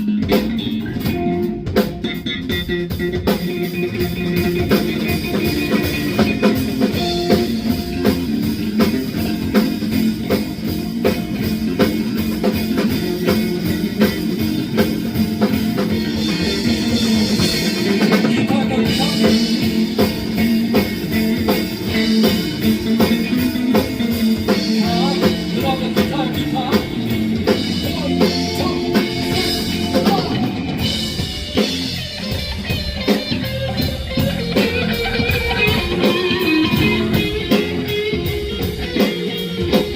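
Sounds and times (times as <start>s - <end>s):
drum kit beat: 0.0s - 39.9s
guitars: 0.0s - 39.9s
live rock band playing: 0.0s - 39.9s.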